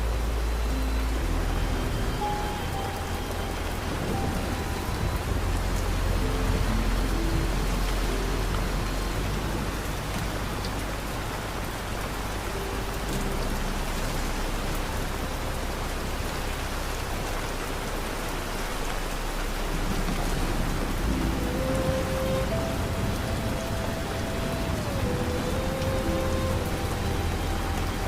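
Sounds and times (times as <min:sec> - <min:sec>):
soft background music: 0:00.0 - 0:28.0
steady rain hissing: 0:00.0 - 0:28.0.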